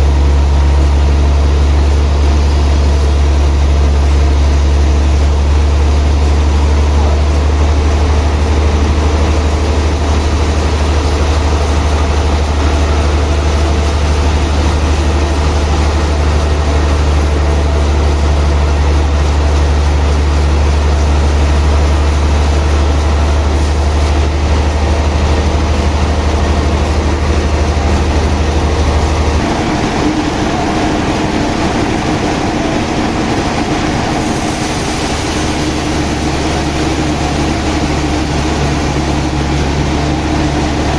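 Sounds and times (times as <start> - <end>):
mechanical rattle and clatter: 0.0 - 40.9
sawmill machinery deep hum: 0.0 - 40.9.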